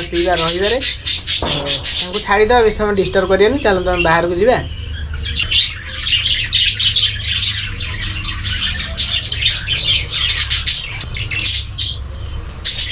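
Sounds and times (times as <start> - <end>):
budgerigars chattering: 0.0 - 12.9.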